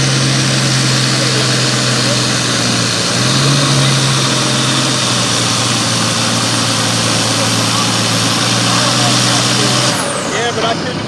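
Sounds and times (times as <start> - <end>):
loud engine low hum: 0.0 - 11.0.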